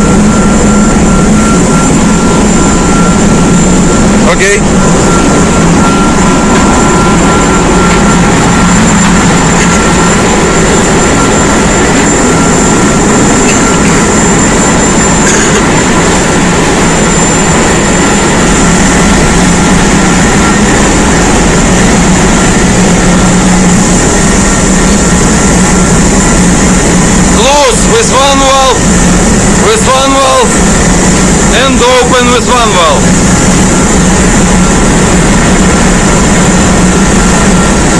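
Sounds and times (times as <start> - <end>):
engine room machinery: 0.0 - 37.9.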